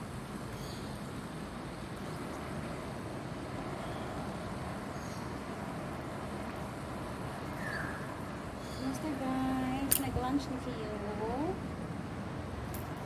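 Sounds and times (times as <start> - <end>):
steady background noise rush: 0.0 - 13.0.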